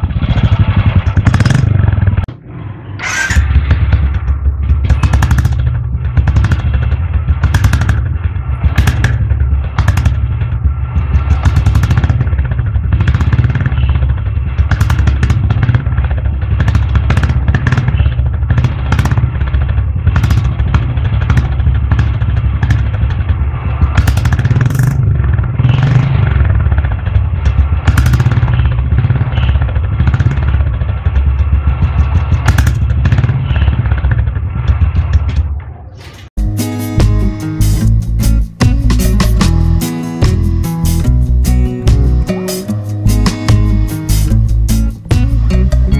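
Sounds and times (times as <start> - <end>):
motorcycle engine thumping: 0.0 - 45.9.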